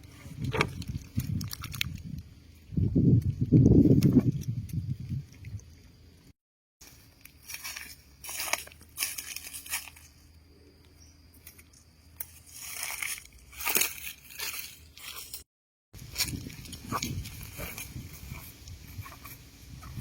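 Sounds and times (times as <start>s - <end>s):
rustling and crunching: 0.0s - 6.0s, 6.8s - 10.4s, 11.3s - 20.0s.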